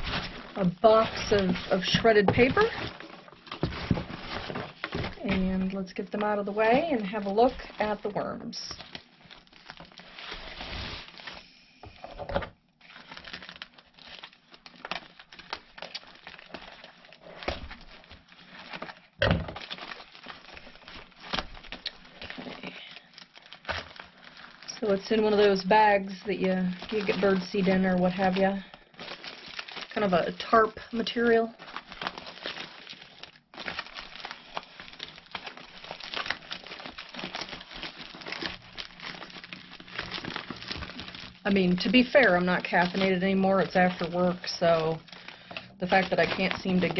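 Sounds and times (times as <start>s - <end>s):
plastic sack rustling and crinkling: 0.0s - 12.2s, 12.8s - 46.9s.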